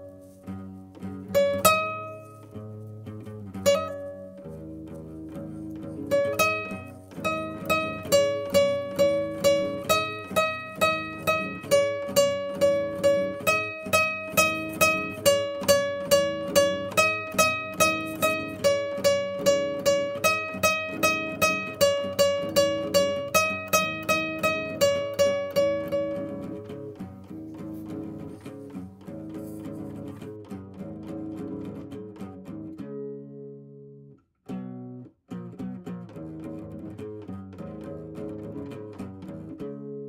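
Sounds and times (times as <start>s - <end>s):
plucked string instrument: 0.0s - 40.0s.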